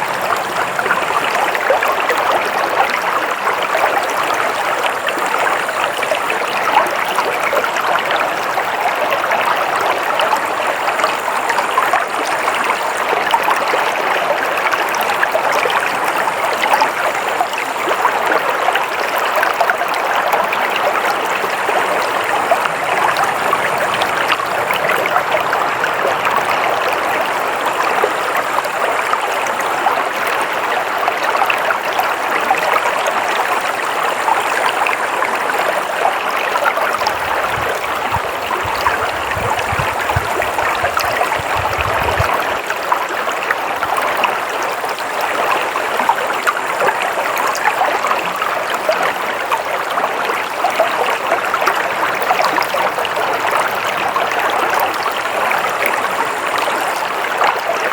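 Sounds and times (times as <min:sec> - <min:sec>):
stream water babbling: 0:00.0 - 0:57.9.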